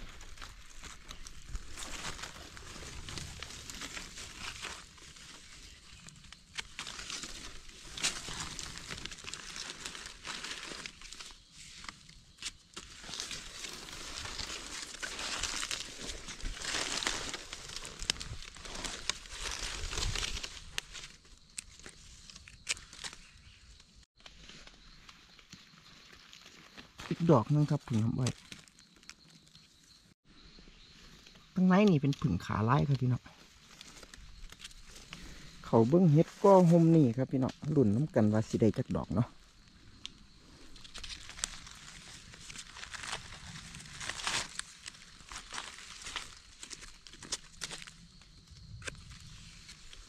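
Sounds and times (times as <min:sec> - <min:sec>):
dry leaves rustling and crackling: 0:00.0 - 0:30.1, 0:31.3 - 0:50.0.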